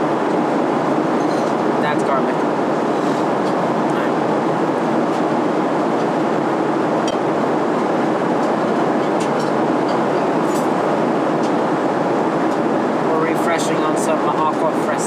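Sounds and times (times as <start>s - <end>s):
airliner cabin rushing hum: 0.0s - 15.0s.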